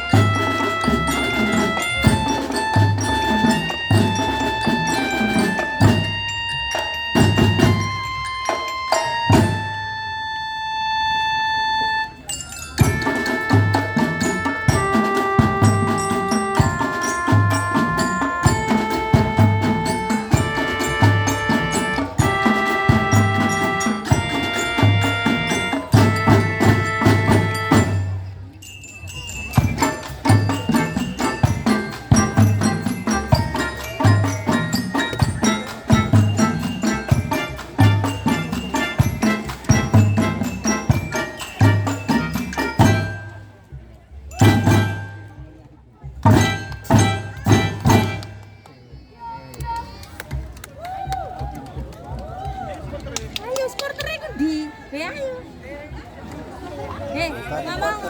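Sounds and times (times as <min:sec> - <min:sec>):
marching band playing: 0:00.0 - 0:48.7
pitched percussion melody: 0:00.0 - 0:55.4.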